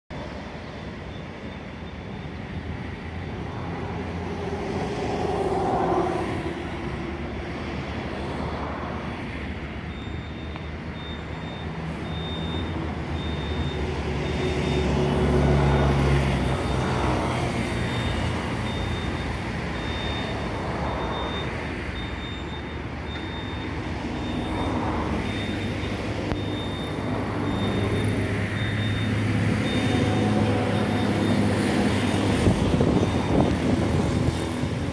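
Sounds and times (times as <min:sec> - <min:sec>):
road traffic passing: 0:00.1 - 0:34.9.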